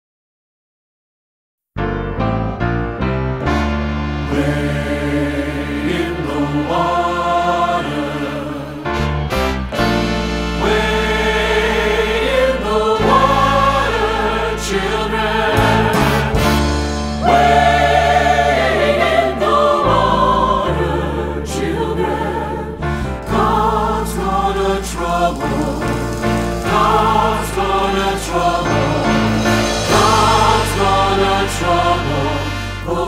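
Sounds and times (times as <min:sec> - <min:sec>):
low piano chords: 0:01.8 - 0:32.9
choir singing gospel: 0:04.0 - 0:33.0.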